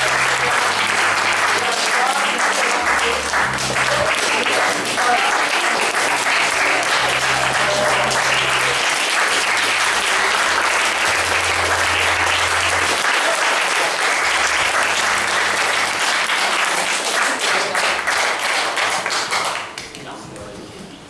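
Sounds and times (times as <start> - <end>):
audience applauding: 0.0 - 20.1.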